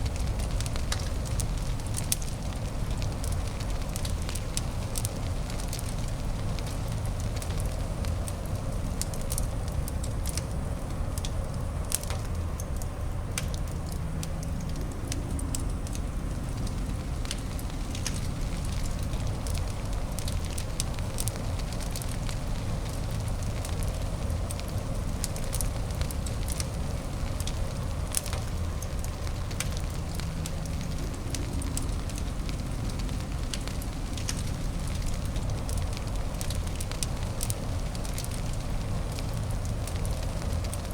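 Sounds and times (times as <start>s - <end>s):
fire crackling and popping: 0.0s - 40.9s
low fire rumble: 0.0s - 40.9s.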